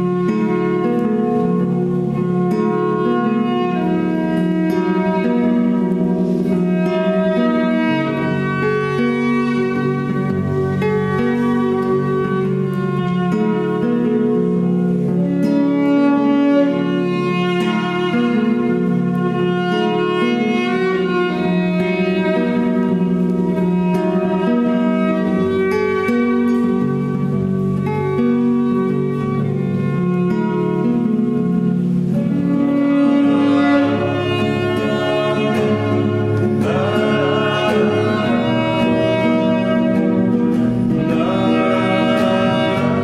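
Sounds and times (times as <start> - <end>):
acoustic guitar: 0.0 - 43.0
violin: 0.0 - 43.0.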